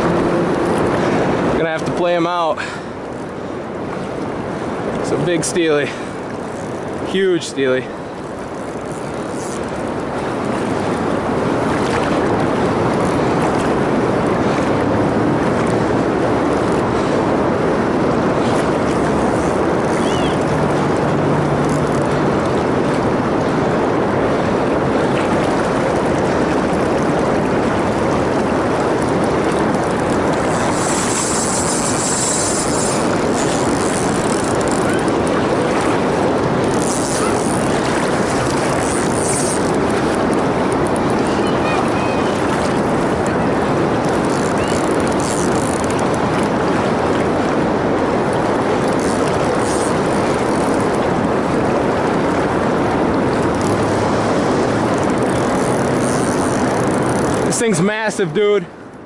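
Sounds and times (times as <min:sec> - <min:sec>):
rushing river water: 0:00.0 - 0:59.0.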